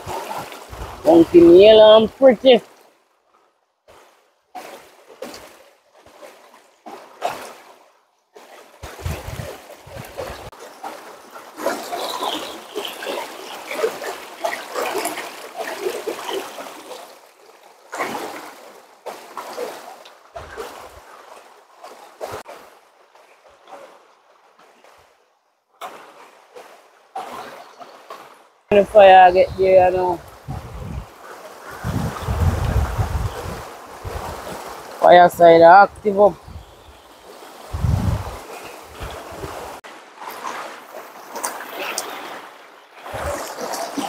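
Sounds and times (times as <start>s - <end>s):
water splashing and trickling: 0.0s - 25.2s, 25.8s - 44.0s.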